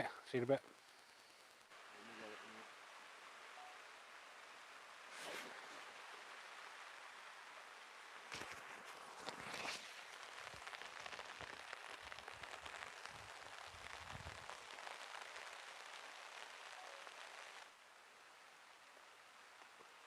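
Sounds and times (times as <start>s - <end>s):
heavy rain on a tarp: 0.0s - 20.0s.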